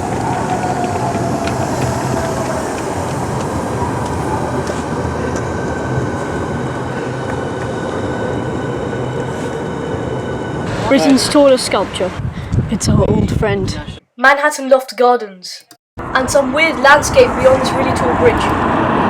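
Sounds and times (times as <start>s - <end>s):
faint train whine: 0.0s - 12.3s, 16.0s - 19.0s
train rumble: 0.0s - 14.0s, 16.0s - 19.0s.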